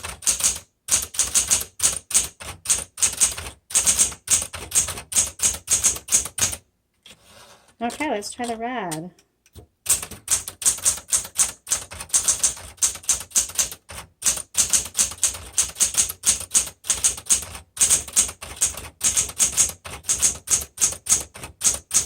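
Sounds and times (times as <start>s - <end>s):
manual typewriter keystrokes: 0.0s - 6.6s, 7.9s - 22.0s.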